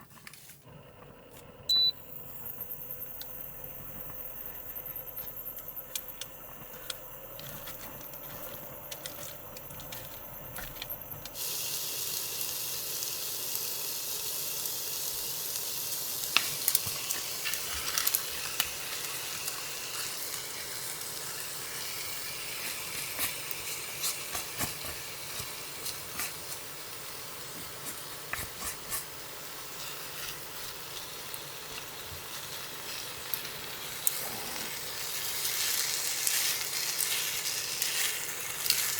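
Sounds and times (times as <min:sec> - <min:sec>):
food sizzling in a pan: 0:01.9 - 0:38.9.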